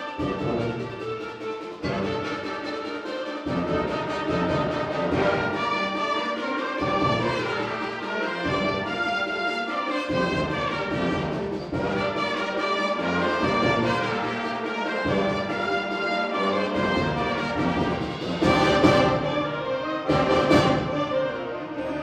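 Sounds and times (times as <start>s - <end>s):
concert band playing: 0.0s - 22.0s.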